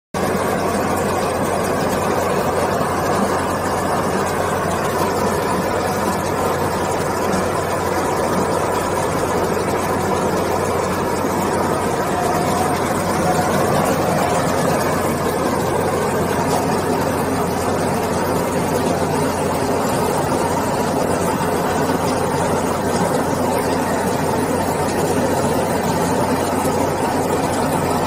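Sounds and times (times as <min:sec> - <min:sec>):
loader engine low hum: 0:00.2 - 0:28.0.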